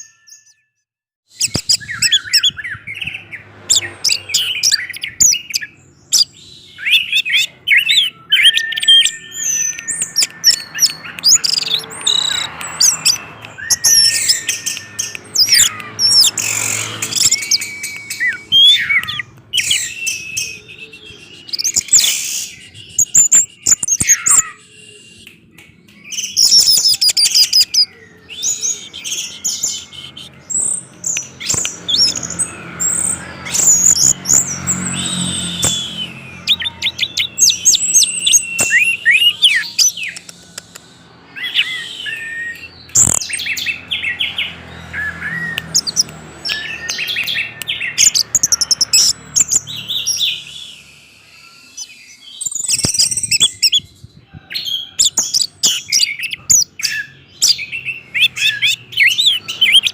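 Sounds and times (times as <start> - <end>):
thrush singing: 1.5 - 53.6.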